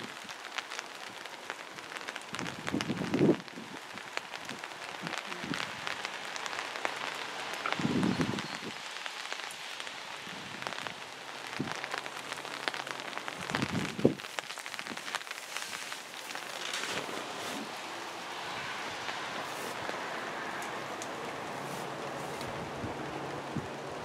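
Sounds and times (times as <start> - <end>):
rain falling steadily: 0.0 - 24.0.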